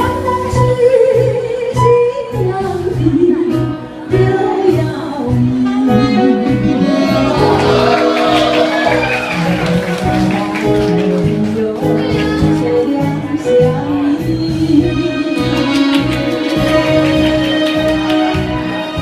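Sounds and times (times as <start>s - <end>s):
song accompaniment with a beat: 0.0s - 19.0s.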